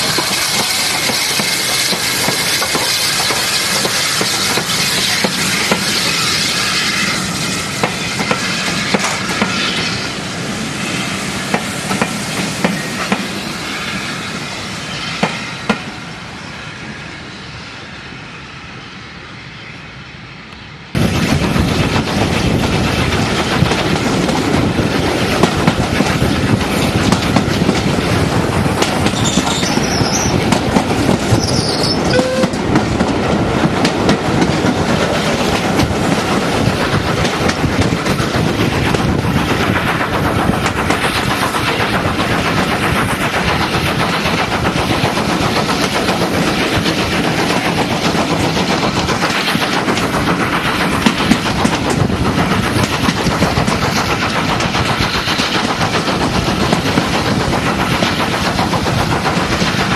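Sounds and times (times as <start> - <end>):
train wheels clicking over rail joints: 0.0 - 10.1, 11.4 - 13.5, 21.0 - 59.9
train coach rumble and clatter: 0.0 - 19.4, 20.0 - 59.9
steam engine hissing: 0.0 - 20.0, 21.0 - 59.9.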